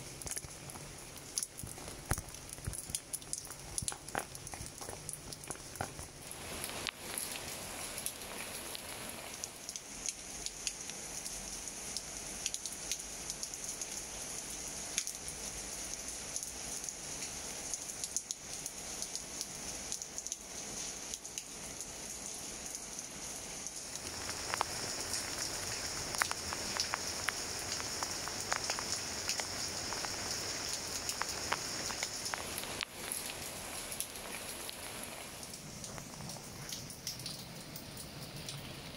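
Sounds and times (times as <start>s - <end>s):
rain on leaves: 0.0s - 38.9s
raindrops ticking: 0.0s - 38.9s.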